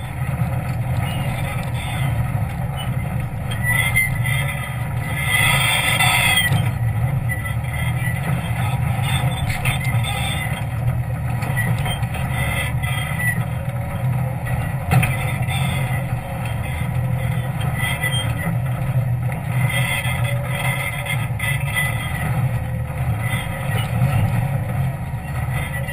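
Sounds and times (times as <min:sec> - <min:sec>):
jeep engine under load: 0:00.0 - 0:25.9.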